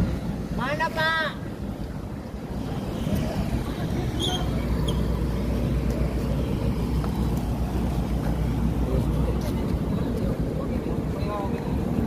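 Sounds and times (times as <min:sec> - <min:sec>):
ferry engine drone: 0:00.0 - 0:12.0.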